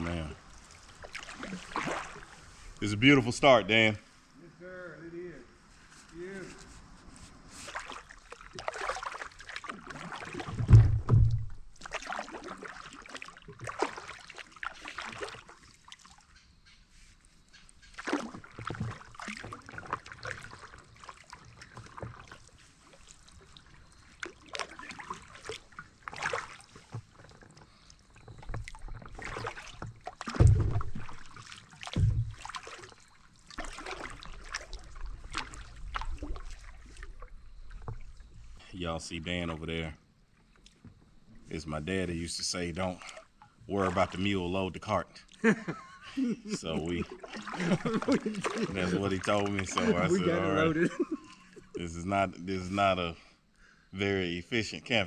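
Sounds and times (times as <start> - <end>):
paddle strokes in water: 0.0 - 3.0, 5.6 - 38.6, 40.3 - 51.8.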